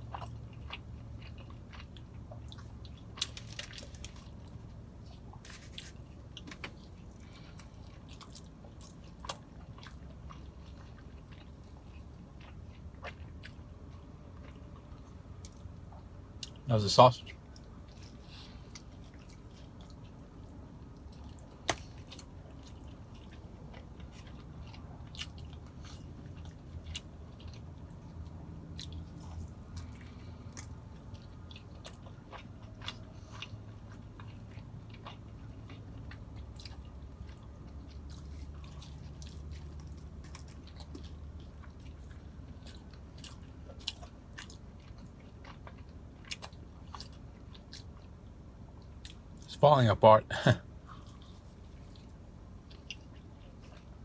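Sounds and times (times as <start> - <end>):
person chewing food: 0.0 - 16.7, 17.3 - 49.5, 50.6 - 54.0.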